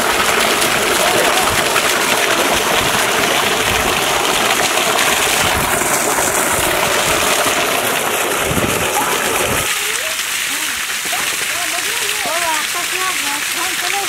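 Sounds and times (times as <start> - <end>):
water jet splashing on concrete: 0.0 - 14.0.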